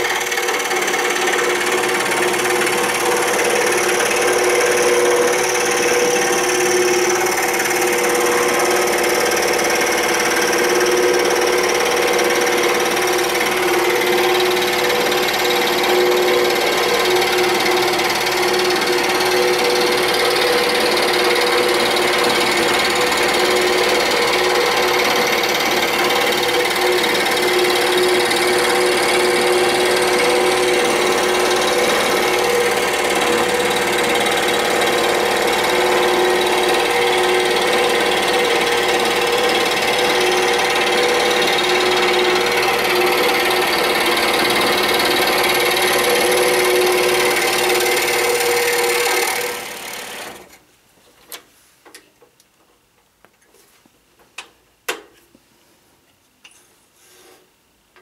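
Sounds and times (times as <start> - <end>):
scroll saw buzzing: 0.0 - 50.6.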